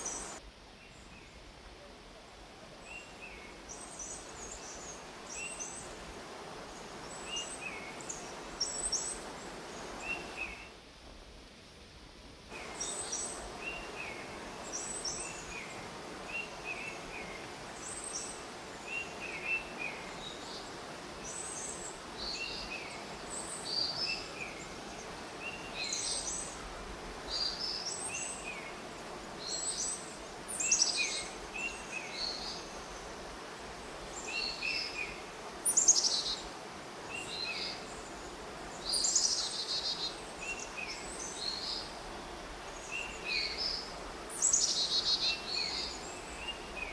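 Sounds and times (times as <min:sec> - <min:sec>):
steady background hiss: 0:00.0 - 0:46.9.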